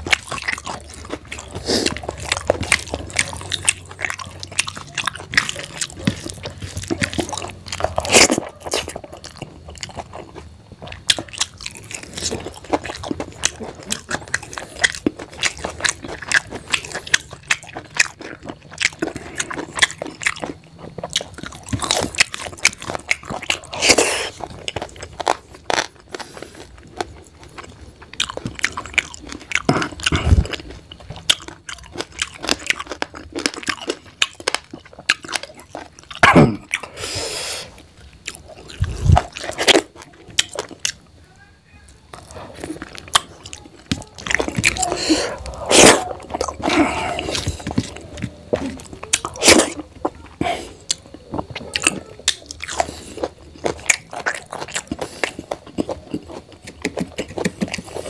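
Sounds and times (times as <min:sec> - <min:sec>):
wet chewing and smacking: 0:00.0 - 0:58.0.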